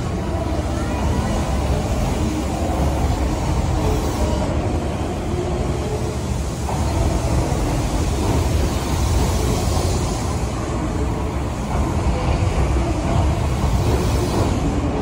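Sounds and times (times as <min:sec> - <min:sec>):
train carriages rumbling past: 0:00.0 - 0:15.0.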